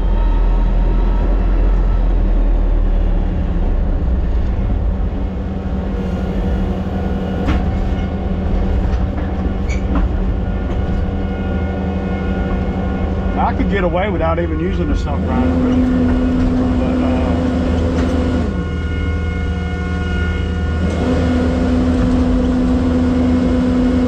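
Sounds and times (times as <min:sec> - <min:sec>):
heavy loader engine droning: 0:00.0 - 0:24.0.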